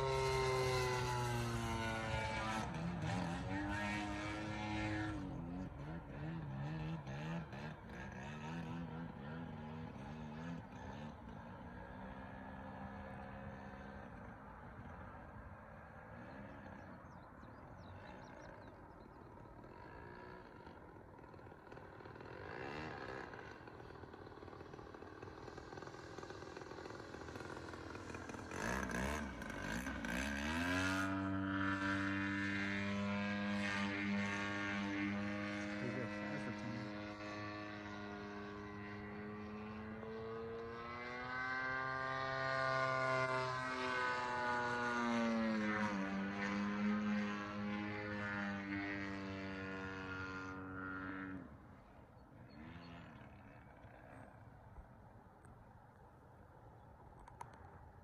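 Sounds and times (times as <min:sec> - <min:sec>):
model plane engine: 0:00.0 - 0:58.0.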